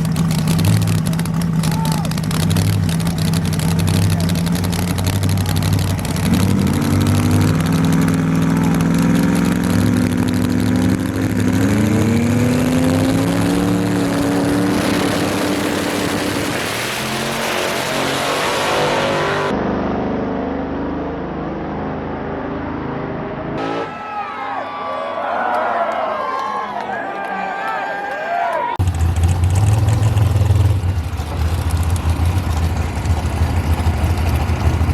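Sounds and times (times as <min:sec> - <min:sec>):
race car engine accelerating: 0:00.0 - 0:24.0, 0:28.8 - 0:34.9.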